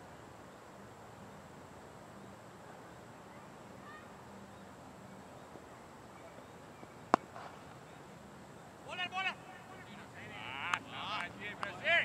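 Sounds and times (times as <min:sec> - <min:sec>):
steady outdoor hiss: 0:00.0 - 0:12.0
faint voices: 0:02.2 - 0:12.0.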